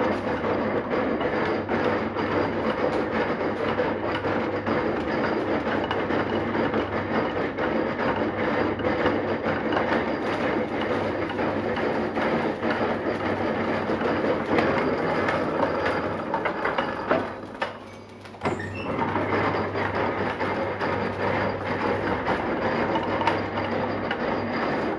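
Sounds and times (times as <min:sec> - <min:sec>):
metal lathe machining: 0:00.0 - 0:24.9.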